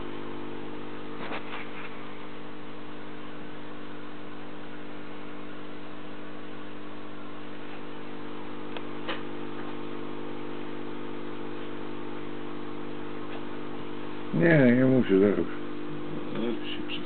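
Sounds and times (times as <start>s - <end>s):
aquarium air pump humming: 0.0s - 17.0s.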